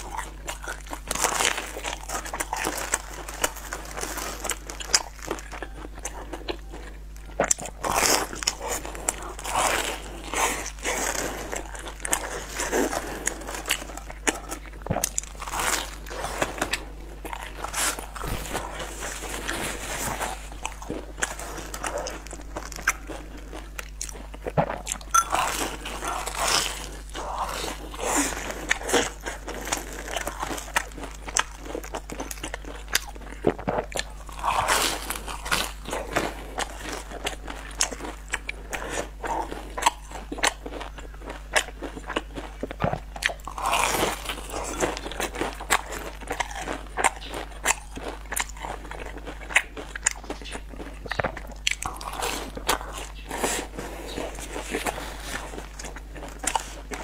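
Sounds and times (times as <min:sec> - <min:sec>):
crunchy chewing of pastries: 0:00.0 - 0:57.0.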